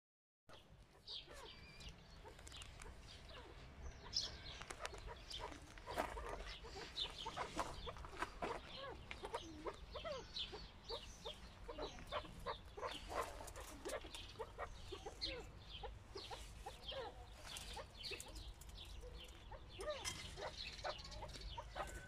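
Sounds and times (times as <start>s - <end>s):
partridges clucking and chirping: 0.5s - 22.0s.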